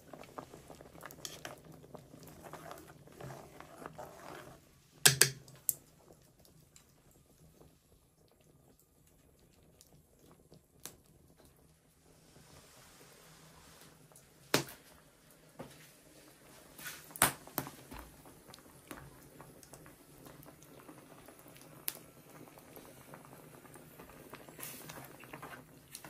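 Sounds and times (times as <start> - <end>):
porridge bubbling in a pot: 0.0 - 26.0.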